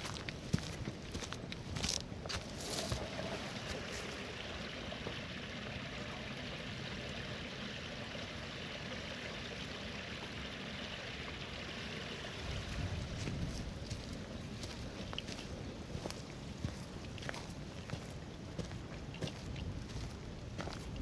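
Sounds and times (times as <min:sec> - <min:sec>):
stream water rushing: 0:02.1 - 0:21.0.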